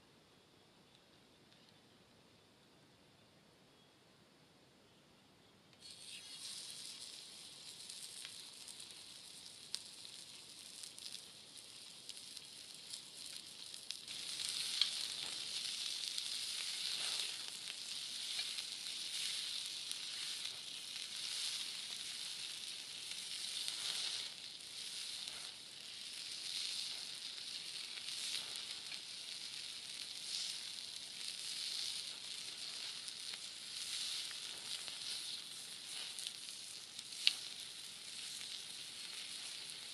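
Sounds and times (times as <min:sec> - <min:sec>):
small crackles: 0:05.7 - 0:39.9
chicken sizzling over fire: 0:05.8 - 0:39.9.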